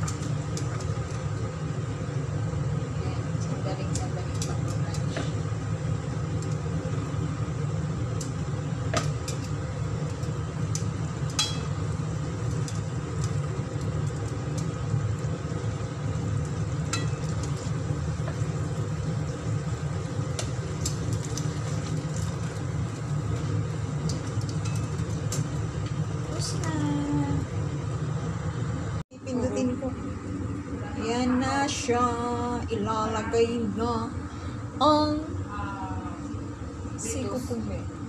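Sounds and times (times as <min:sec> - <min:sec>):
low stove rumble: 0:00.0 - 0:38.0.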